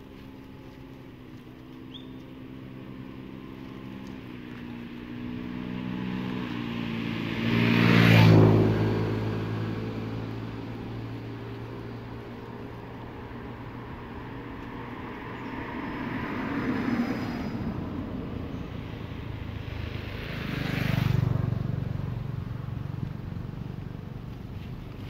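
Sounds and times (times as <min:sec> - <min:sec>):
motor vehicles passing by: 0:00.0 - 0:25.0.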